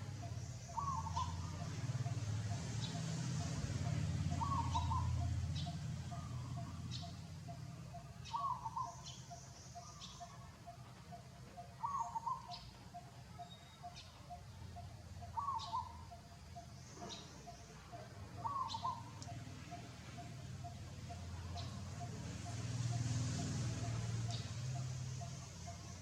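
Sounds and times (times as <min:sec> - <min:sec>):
faint steady ticking: 0:00.0 - 0:26.0.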